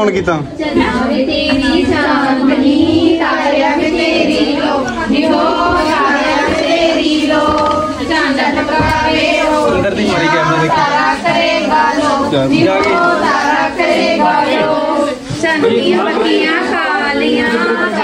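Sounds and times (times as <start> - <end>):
children singing a folk song: 0.5 - 18.0.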